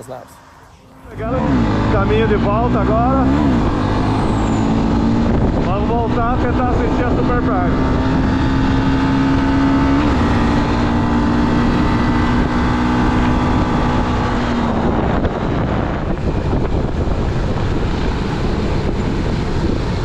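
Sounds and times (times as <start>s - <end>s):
motorcycle engine running: 0.9s - 20.0s
wind noise on microphone: 1.0s - 20.0s.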